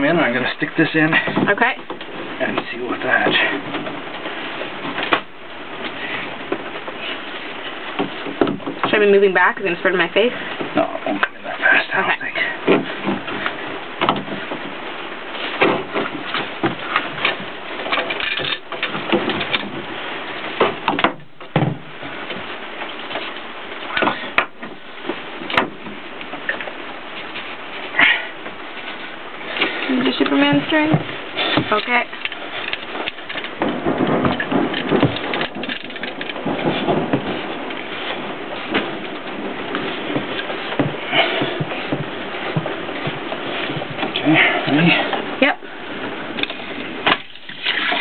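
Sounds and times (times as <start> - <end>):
continuous crackle: 0.0 - 48.0.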